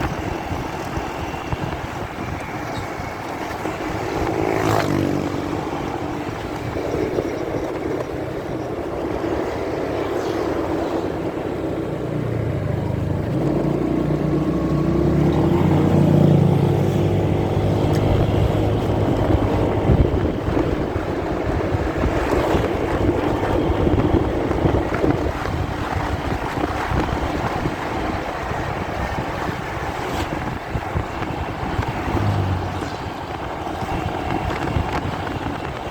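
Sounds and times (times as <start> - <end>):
muffled motorcycle engine: 0.0 - 35.9
wind and road noise: 0.0 - 35.9.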